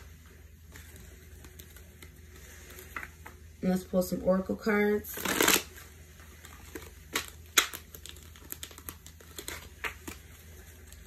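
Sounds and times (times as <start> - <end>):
cards being shuffled: 0.0 - 3.4, 5.1 - 11.0.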